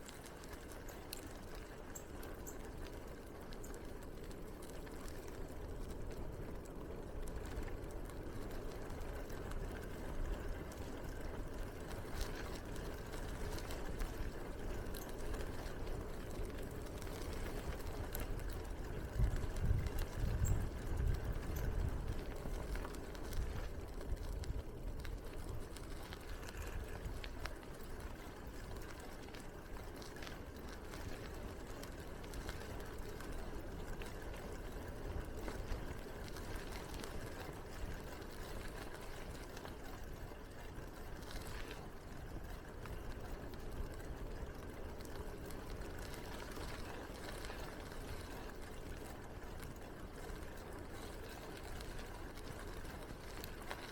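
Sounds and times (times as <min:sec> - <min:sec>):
bicycle tyres rolling on path: 0:00.0 - 0:53.9
faint ticks: 0:00.0 - 0:53.9.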